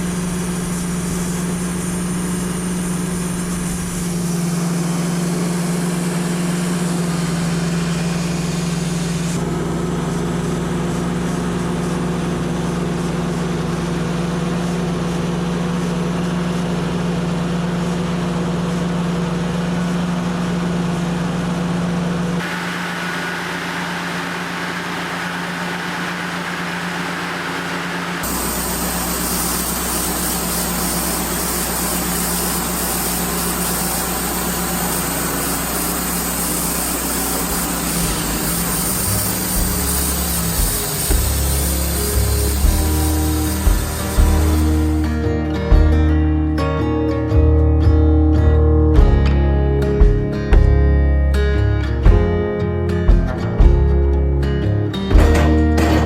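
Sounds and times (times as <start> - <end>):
sawmill engine running: 0.0 - 46.1, 55.0 - 56.0.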